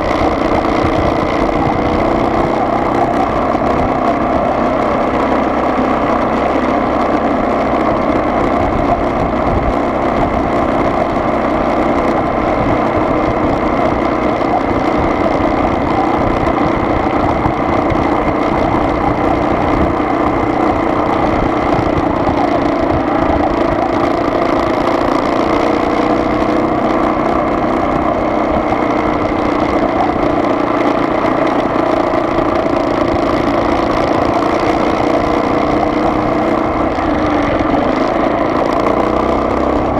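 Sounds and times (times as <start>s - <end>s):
car engine hum and rumble: 0.0s - 39.9s.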